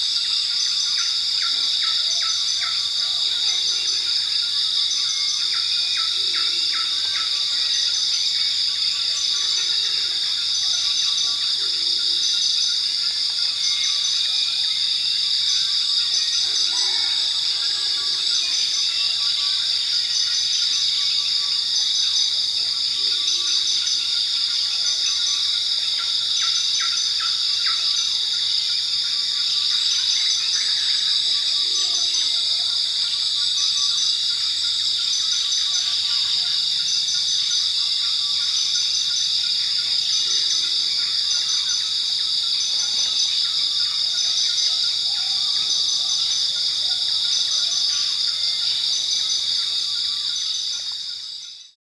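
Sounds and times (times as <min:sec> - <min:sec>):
insects buzzing: 0:00.0 - 0:51.6
crickets chirping: 0:00.0 - 0:51.8.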